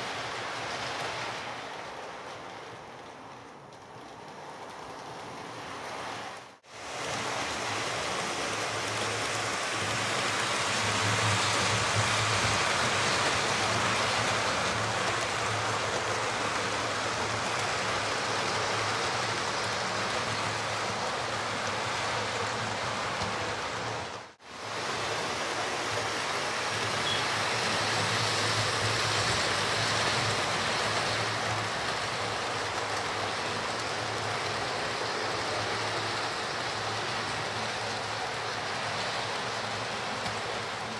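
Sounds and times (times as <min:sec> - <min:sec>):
model trains whirring on track: 0:00.0 - 0:40.9.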